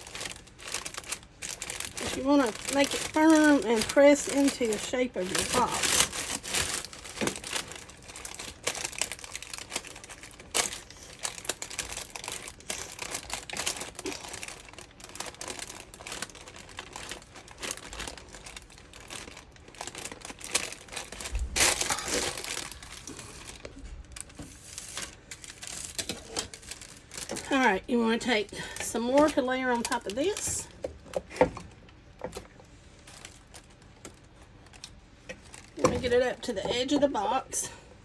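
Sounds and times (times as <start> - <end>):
wax paper crinkling: 0.0 - 37.7.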